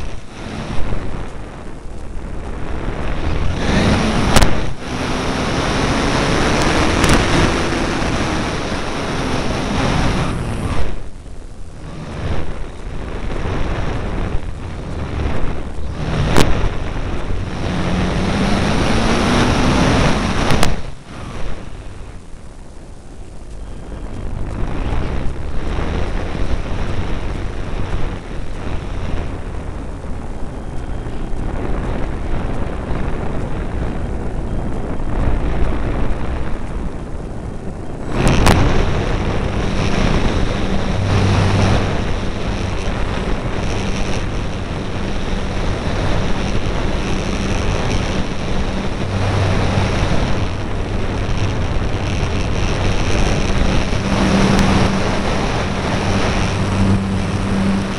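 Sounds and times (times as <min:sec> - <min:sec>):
motor and propeller hum: 0:00.0 - 0:57.9
wind rushing over camera: 0:00.0 - 0:57.9.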